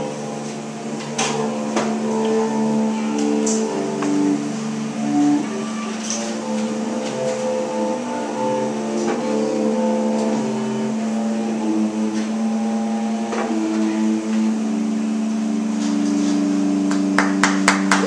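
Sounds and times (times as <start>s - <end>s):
bowed electric bass drone: 0.0s - 18.0s.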